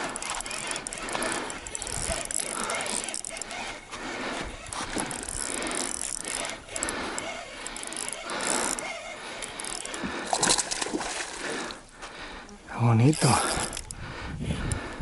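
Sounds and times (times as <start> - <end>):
fishing reel whirring with clicks: 0.0 - 10.9, 12.4 - 14.0, 14.6 - 15.0.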